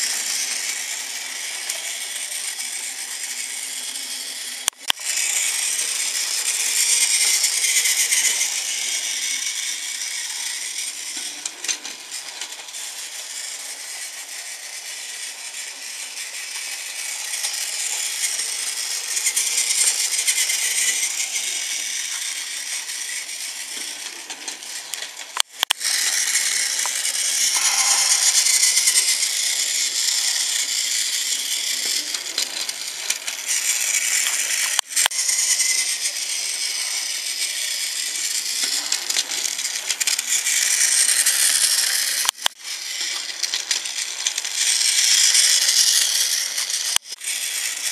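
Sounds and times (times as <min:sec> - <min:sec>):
toy train motor whirring: 0:00.0 - 0:47.9
toy train wheels rattling: 0:00.0 - 0:47.9.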